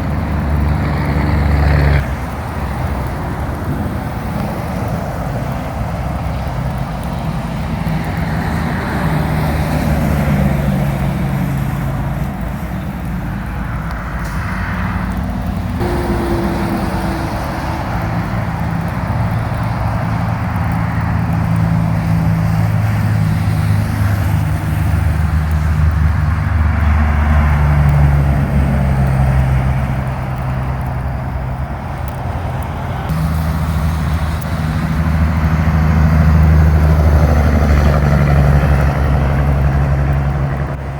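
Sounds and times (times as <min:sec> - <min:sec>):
truck engines droning: 0:00.0 - 0:40.9
tyres hissing on wet pavement: 0:00.0 - 0:40.9.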